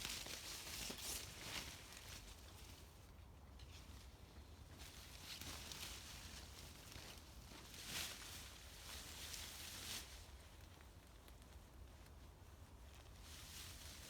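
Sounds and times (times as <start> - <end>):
faint rustling and shuffling: 0.0 - 14.0.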